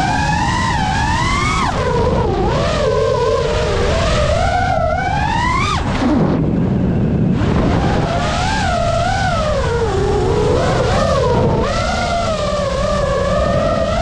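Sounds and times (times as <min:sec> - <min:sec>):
drone motors whining: 0:00.0 - 0:14.0
wind rumble: 0:00.0 - 0:14.0.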